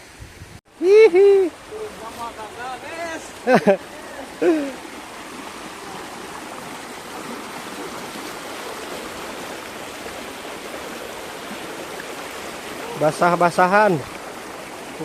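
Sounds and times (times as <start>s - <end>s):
waterfall rushing: 0.7s - 15.0s.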